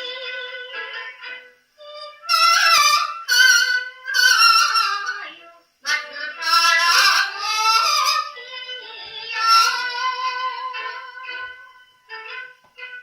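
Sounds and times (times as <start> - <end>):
woman singing on gramophone record: 0.0 - 13.0.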